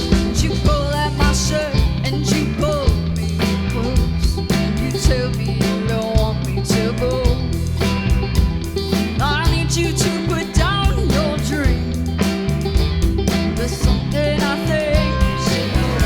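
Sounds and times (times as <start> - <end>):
bass guitar: 0.0 - 16.0
drums: 0.0 - 16.0
guitar: 0.0 - 16.0
sliding lead melody: 0.0 - 16.0.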